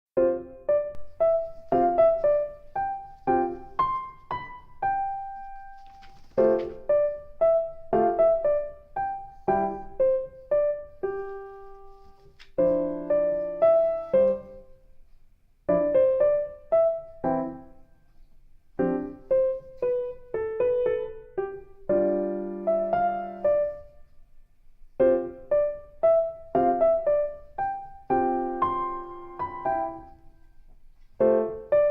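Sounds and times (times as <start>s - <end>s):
slow piano music: 0.2s - 31.9s.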